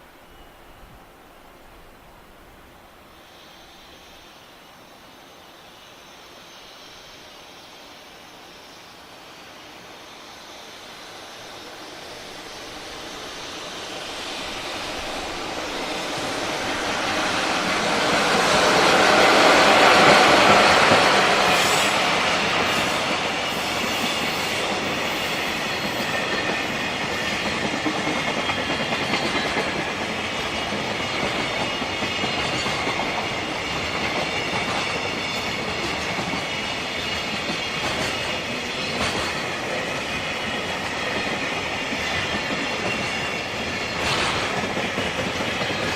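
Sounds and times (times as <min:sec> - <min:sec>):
freight train passing: 0:00.0 - 0:45.9.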